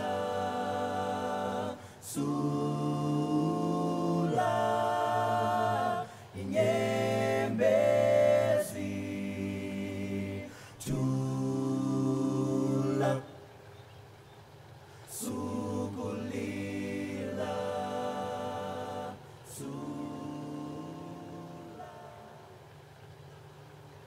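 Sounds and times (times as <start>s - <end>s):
unaccompanied voices singing in harmony: 0.0s - 13.9s, 15.0s - 23.2s.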